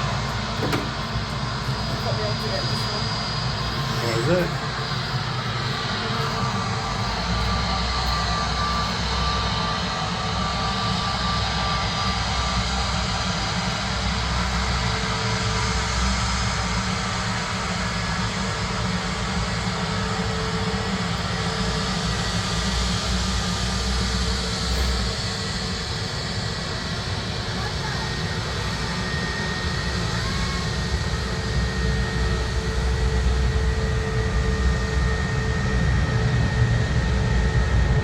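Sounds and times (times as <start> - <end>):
jet airliner engines running: 0.0 - 38.0.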